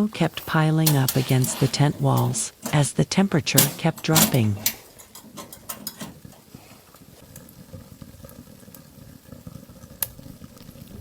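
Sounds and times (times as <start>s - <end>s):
faint crackling: 0.0s - 11.0s.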